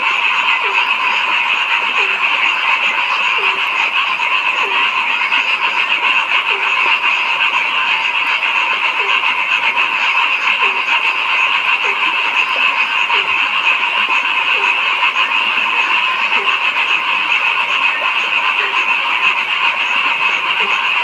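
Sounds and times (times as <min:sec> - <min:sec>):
chorus of calling frogs: 0:00.0 - 0:21.0
deep frog croak: 0:00.0 - 0:21.0.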